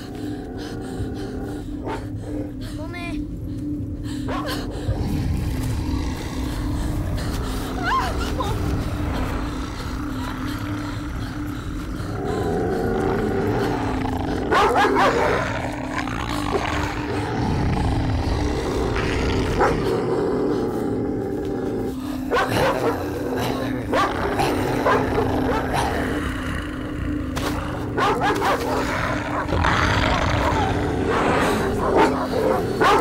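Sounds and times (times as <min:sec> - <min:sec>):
dogs barking and snarling: 0:00.0 - 0:02.6, 0:04.1 - 0:33.0
steady low hum: 0:00.0 - 0:33.0.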